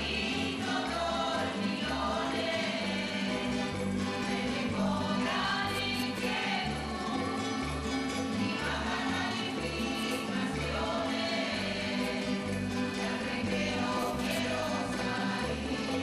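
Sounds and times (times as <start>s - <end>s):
accordion: 0.0s - 16.0s
mixed choir singing: 0.0s - 16.0s
strummed guitars: 0.0s - 16.0s.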